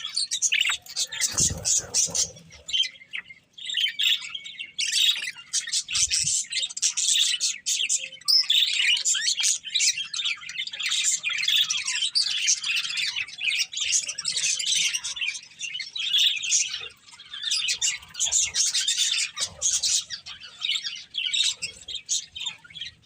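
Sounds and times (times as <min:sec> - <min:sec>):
budgerigars chirping and warbling: 0:00.0 - 0:23.0.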